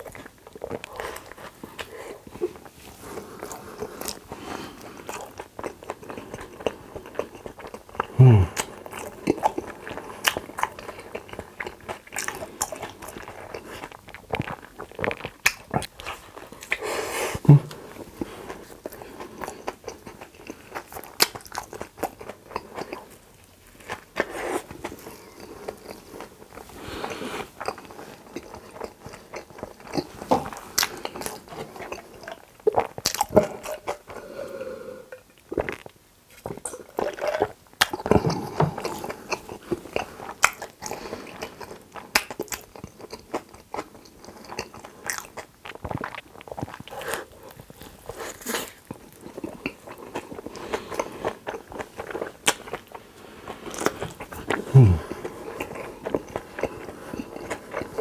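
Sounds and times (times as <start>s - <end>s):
person chewing: 0.0s - 58.0s.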